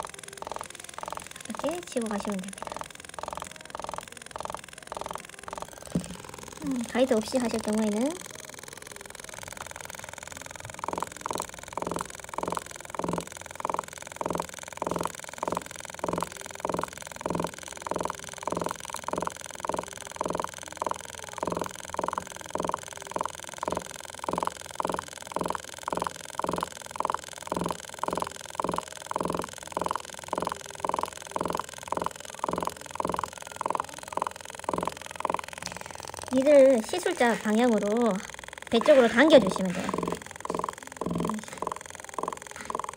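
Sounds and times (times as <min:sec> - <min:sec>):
tattoo pen buzzing in pulses: 0:00.0 - 0:42.9.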